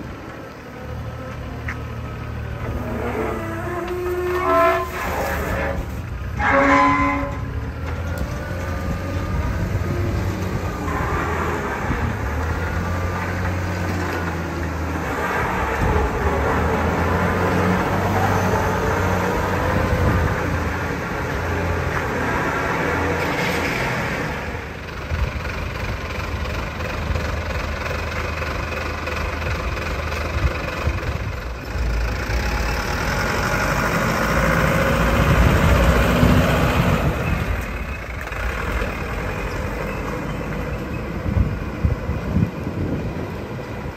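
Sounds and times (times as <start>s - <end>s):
dump truck engine pulling away: 0.0s - 43.9s
wheel loader engine humming: 0.0s - 43.9s.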